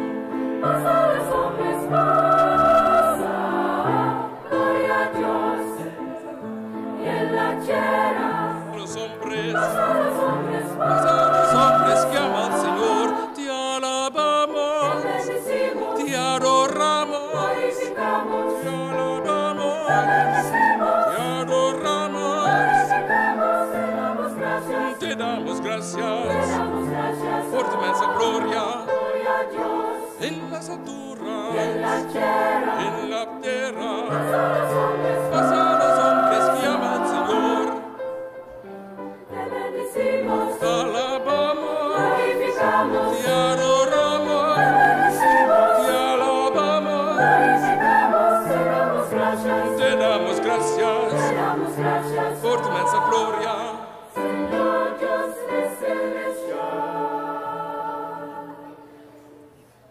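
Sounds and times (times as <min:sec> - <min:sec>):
mixed choir singing: 0:00.0 - 0:59.7.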